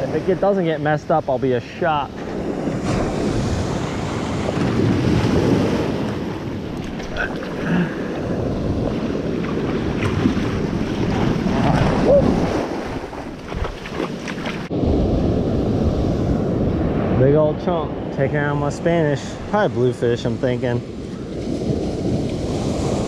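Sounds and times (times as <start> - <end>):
ocean surf washing: 0.0 - 23.0
wind buffeting microphone: 0.0 - 23.0.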